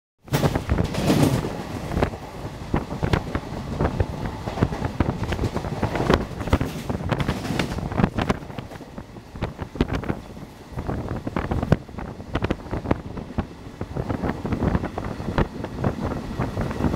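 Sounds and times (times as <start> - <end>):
train passing at speed: 0.3 - 16.9
wheels clacking over rail joints: 0.3 - 16.9
wind buffeting microphone: 0.3 - 16.9.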